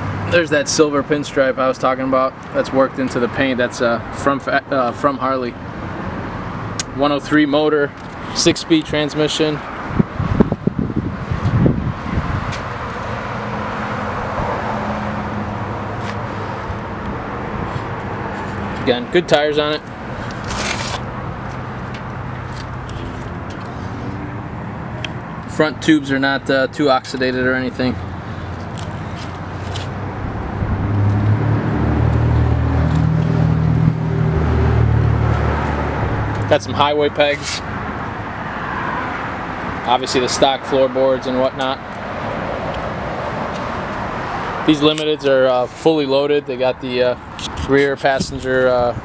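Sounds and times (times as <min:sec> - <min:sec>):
traffic rumble and hiss: 0:00.0 - 0:49.0
vehicle engine droning: 0:00.0 - 0:49.0.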